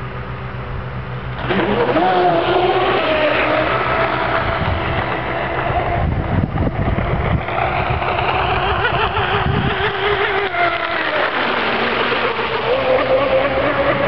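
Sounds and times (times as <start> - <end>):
low wind rumble: 0.0 - 14.0
electric motor whining: 1.3 - 14.0.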